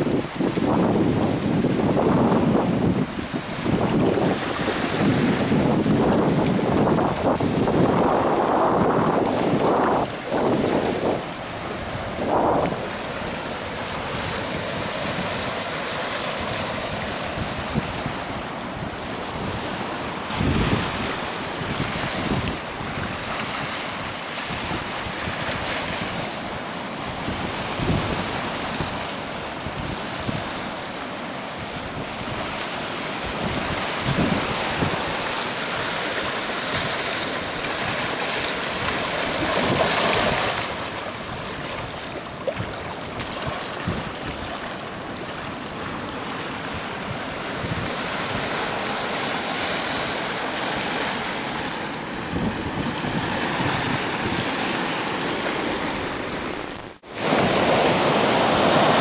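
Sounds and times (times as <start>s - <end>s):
wind buffeting microphone: 0.0s - 26.3s, 31.6s - 59.0s
surf washing over rocks: 0.0s - 59.0s.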